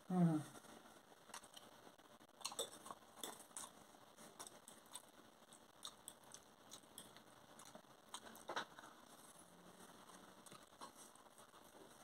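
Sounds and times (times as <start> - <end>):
person chewing: 1.2 - 12.0.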